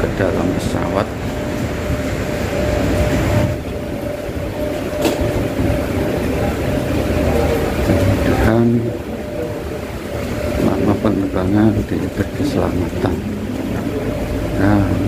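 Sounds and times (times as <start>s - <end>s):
mechanical rumble with whine: 0.0s - 15.0s.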